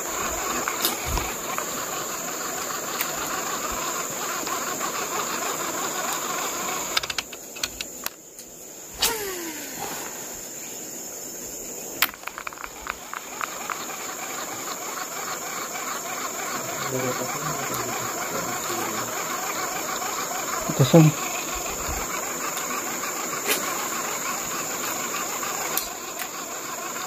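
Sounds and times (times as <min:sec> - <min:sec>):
scattered clicks: 0:00.0 - 0:09.4, 0:12.0 - 0:27.0
insects droning: 0:00.0 - 0:27.0.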